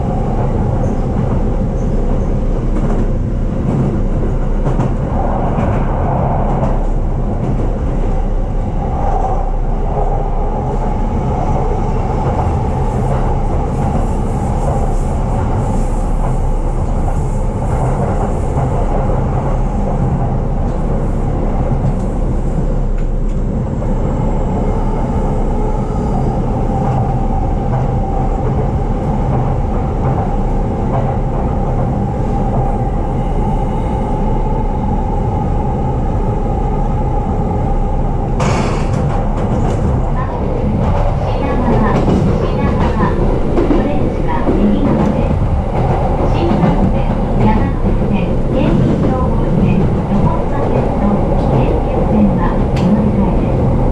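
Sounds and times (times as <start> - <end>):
steady train tone: 0.0 - 53.9
train wheels rumbling on rail: 0.0 - 53.9.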